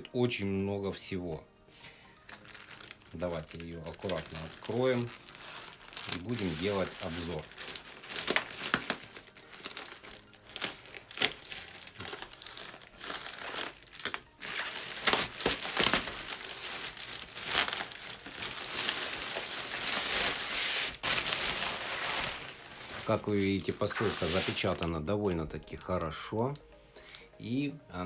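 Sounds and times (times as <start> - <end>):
packaging crinkling and tearing: 2.2 - 26.6.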